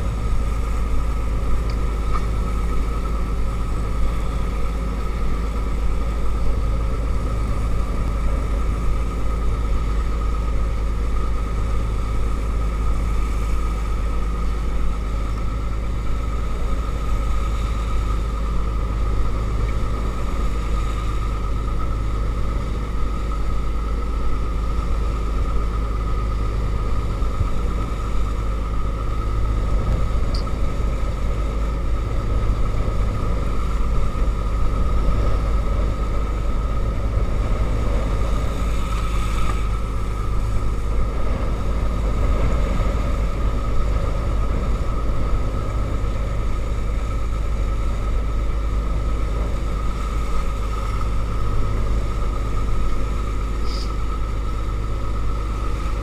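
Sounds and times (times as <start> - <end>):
boat engine droning: 0.0 - 56.0
high engine whine: 0.0 - 56.0
water washing at stern: 0.0 - 56.0.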